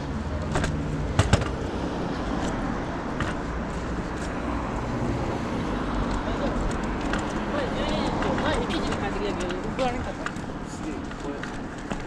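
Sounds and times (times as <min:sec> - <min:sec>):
car traffic rumble: 0:00.0 - 0:12.0.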